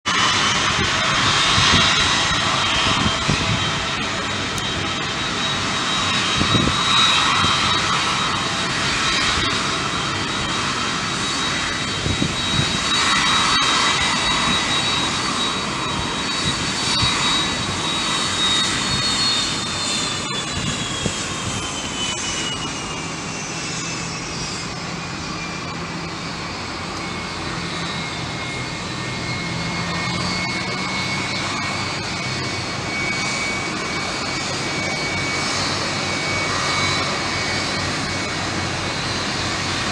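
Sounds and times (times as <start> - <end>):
jet engines running: 0.0 - 39.9
high engine whine: 0.1 - 39.9.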